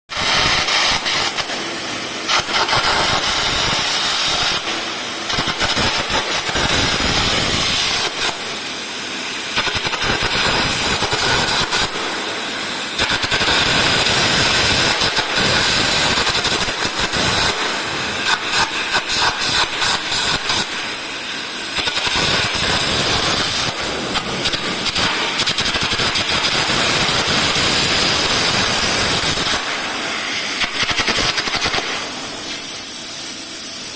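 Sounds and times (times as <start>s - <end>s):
arc gouging hiss and crackle: 0.1s - 33.9s.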